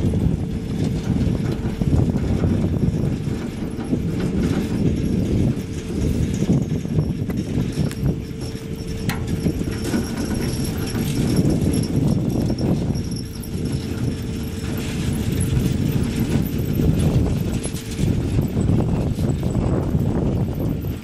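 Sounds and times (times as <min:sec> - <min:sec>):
lift cable clattering: 0:00.0 - 0:21.0
wind buffeting microphone: 0:00.0 - 0:21.0.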